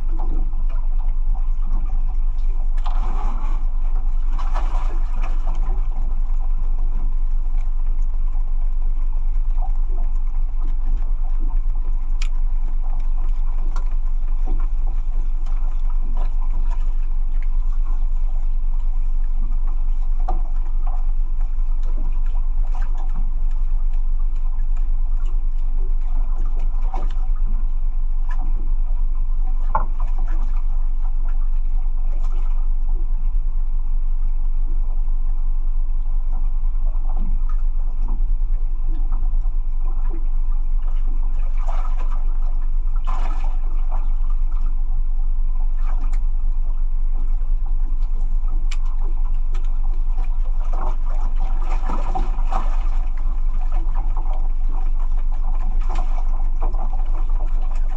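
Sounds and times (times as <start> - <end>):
water splashing: 0.0 - 33.1, 36.3 - 57.9
boat engine droning: 0.0 - 57.9.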